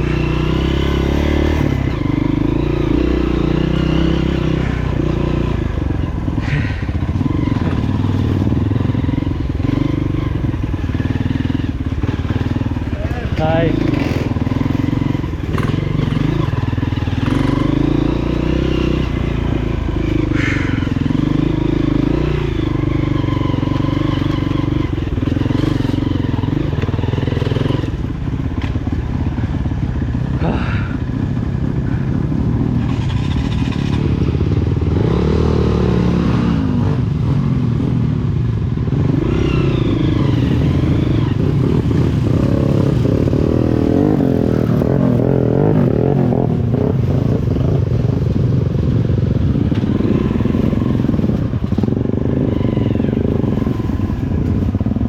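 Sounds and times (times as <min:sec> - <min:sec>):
motorcycle engine revving: 0:00.0 - 0:55.0
engine clatter: 0:04.9 - 0:35.5, 0:36.3 - 0:55.0.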